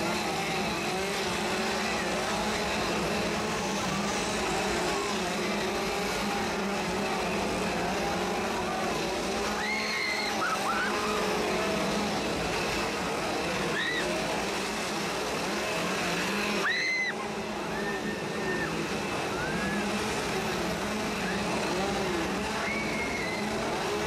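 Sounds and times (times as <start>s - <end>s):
chainsaws revving: 0.0s - 24.0s
crowd shrill cries: 0.1s - 24.0s.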